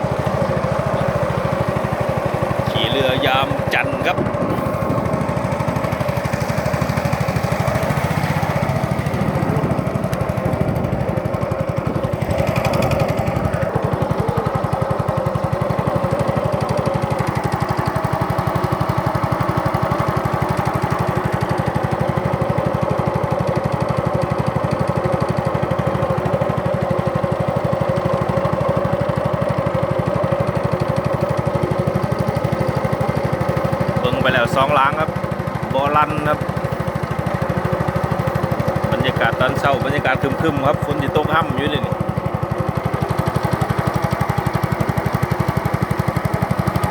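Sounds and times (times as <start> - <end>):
small boat engine chugging: 0.0 - 46.9.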